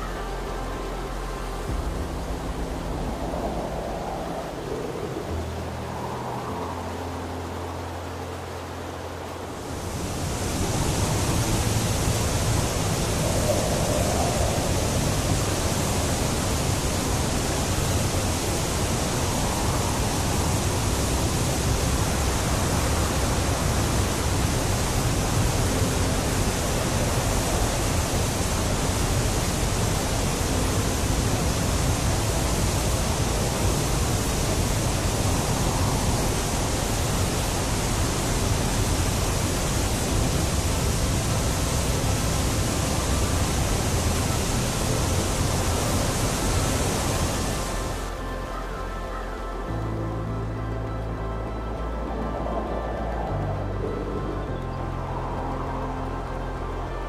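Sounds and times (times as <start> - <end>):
fast-flowing water rushing: 0.0 - 57.0.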